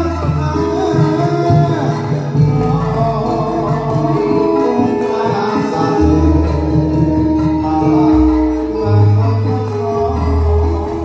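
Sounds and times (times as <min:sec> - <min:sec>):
deep bass notes: 0:00.0 - 0:11.0.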